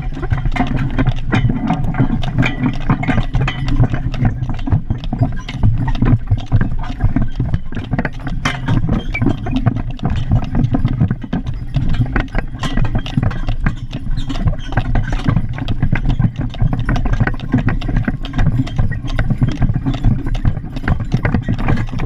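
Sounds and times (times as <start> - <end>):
wagon rattles and knocks: 0.0 - 22.0
wagon wheels rumbling on pavement: 0.0 - 22.0.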